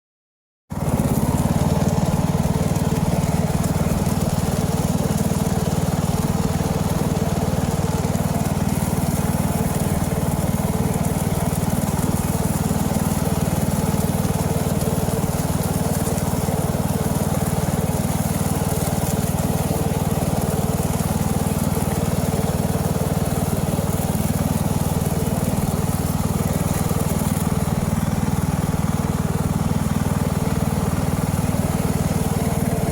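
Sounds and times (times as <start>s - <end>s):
lawn tractor engine running: 0.7s - 32.9s.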